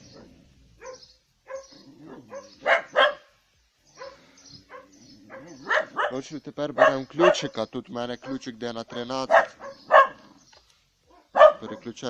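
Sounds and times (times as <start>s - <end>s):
dog barking: 0.0s - 3.3s, 3.9s - 7.6s, 8.2s - 10.3s, 11.1s - 12.0s.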